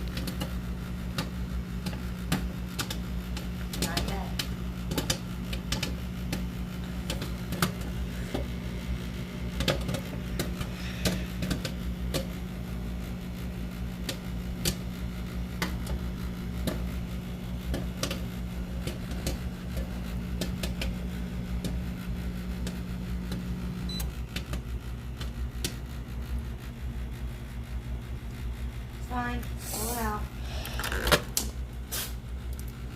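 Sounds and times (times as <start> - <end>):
popcorn popping: 0.0 - 26.5, 29.2 - 32.9
microwave oven humming: 0.0 - 32.9.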